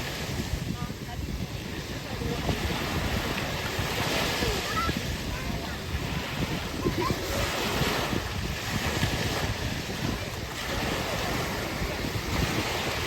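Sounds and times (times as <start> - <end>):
ocean surf on a beach: 0.0 - 13.0
wind buffeting the microphone: 0.0 - 13.0.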